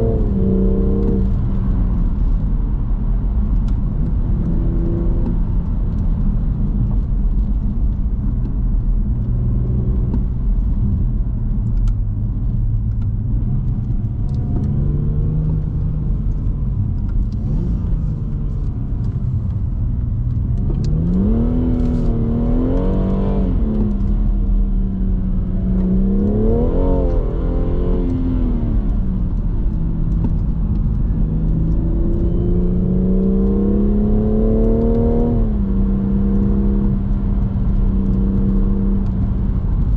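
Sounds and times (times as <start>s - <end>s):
car engine accelerating: 0.0s - 39.9s
road and tyre rumble: 0.0s - 39.9s.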